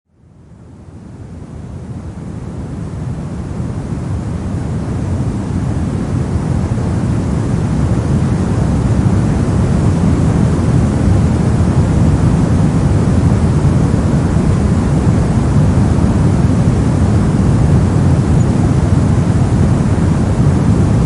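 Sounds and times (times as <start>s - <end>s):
deep rushing brown noise: 0.9s - 21.0s.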